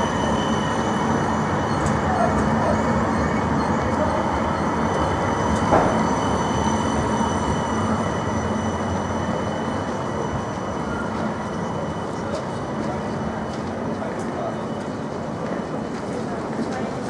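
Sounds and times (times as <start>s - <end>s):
electric tram passing: 0.0s - 17.0s
tram whining tones: 0.0s - 17.0s.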